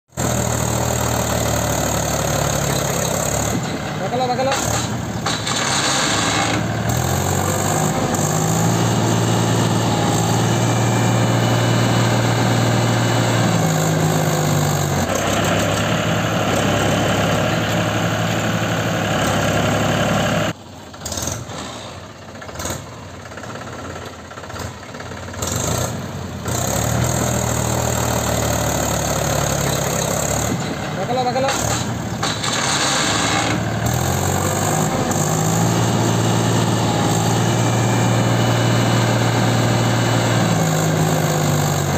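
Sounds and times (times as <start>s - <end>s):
tractor diesel engine straining: 0.1s - 41.9s.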